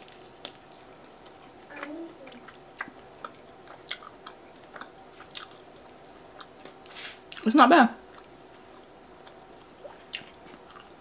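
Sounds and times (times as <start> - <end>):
crunchy chewing: 0.0 - 7.5, 8.1 - 11.0.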